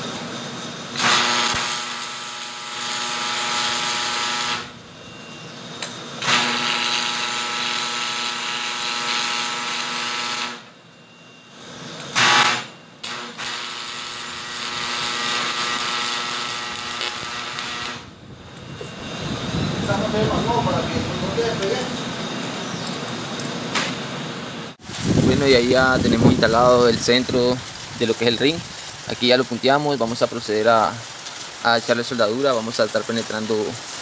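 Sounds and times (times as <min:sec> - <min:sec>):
welding arc crackling and hissing: 0:00.0 - 0:10.8, 0:11.5 - 0:34.0.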